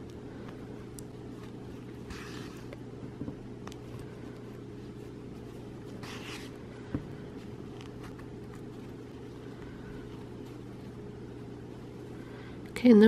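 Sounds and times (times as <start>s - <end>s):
yarn rustling: 0.0s - 12.6s
low background hum: 0.0s - 13.0s.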